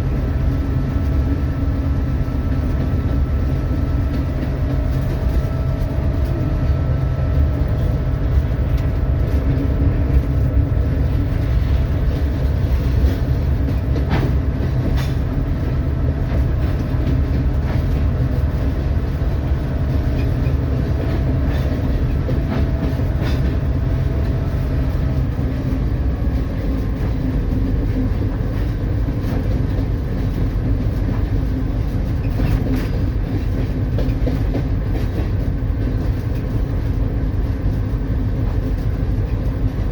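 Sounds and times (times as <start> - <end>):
locomotive engine rumble: 0.0 - 39.9.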